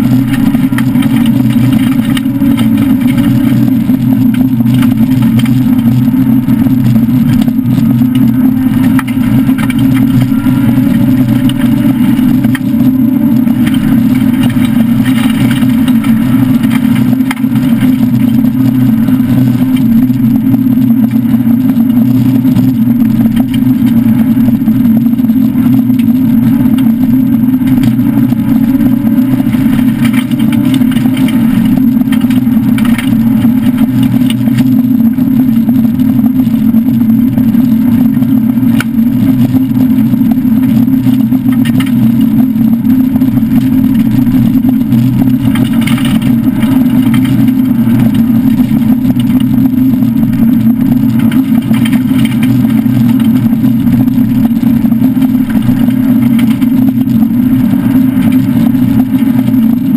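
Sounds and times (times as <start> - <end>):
car engine running hard: 0.0 - 59.9.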